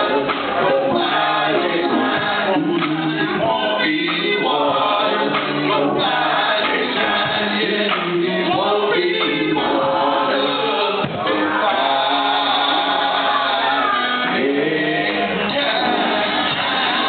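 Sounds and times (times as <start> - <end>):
men singing gospel in harmony: 0.0 - 17.0.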